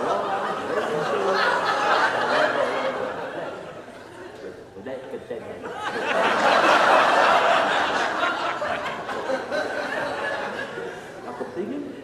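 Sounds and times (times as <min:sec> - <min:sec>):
studio audience laughing: 0:00.0 - 0:04.0, 0:05.6 - 0:11.6.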